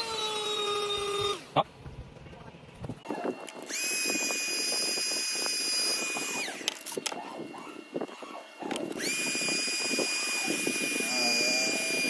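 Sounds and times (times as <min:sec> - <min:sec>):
small electric tool motor whining: 0:00.0 - 0:01.6, 0:03.0 - 0:12.0.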